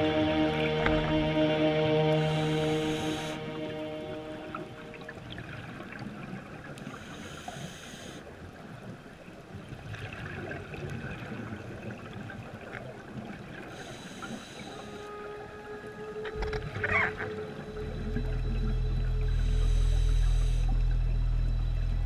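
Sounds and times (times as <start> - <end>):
muffled underwater water noise: 0.0 - 22.0.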